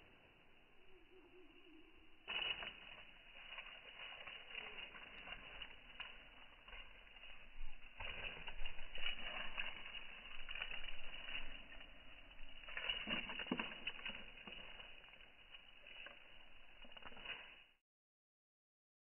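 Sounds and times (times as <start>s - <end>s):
cat paws scuffing soil and leaves: 2.0s - 17.7s.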